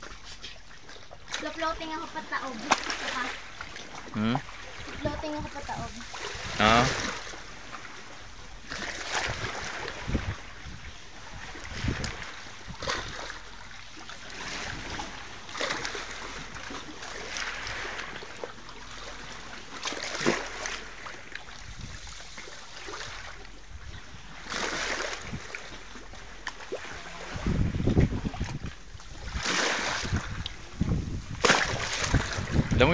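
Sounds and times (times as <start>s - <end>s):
sea water lapping on rocks: 0.0s - 32.9s.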